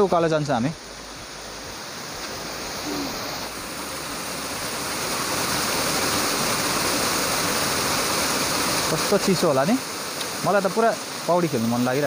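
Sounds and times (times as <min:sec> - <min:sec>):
river rushing over its bed: 0:00.0 - 0:12.0.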